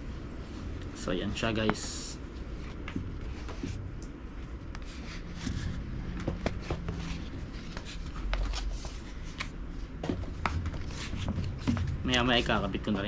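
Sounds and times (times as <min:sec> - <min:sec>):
bicycle tire rustling and tapping: 0:01.4 - 0:13.0.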